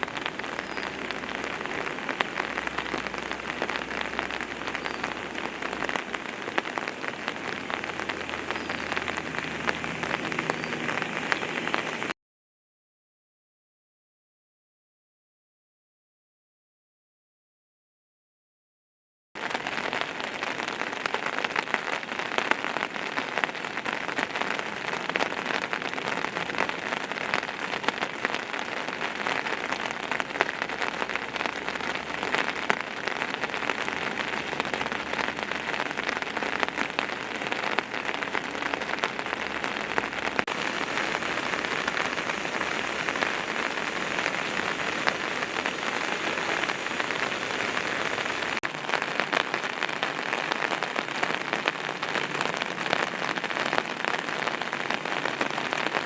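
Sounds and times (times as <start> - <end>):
water rushing: 0.0 - 12.1, 19.4 - 56.0.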